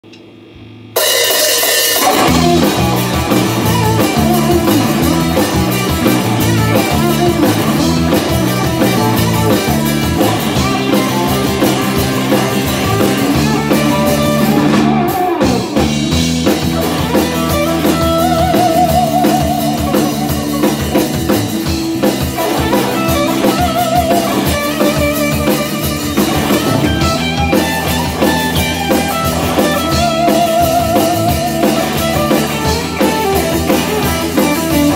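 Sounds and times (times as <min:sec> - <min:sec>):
live blues-rock band: 0:01.0 - 0:34.9.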